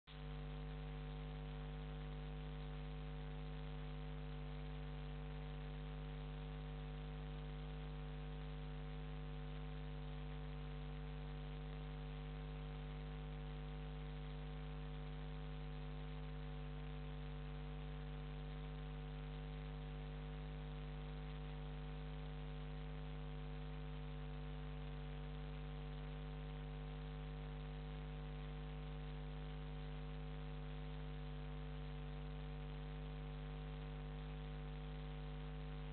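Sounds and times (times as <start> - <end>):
electrical mains hum: 0.1 - 35.9.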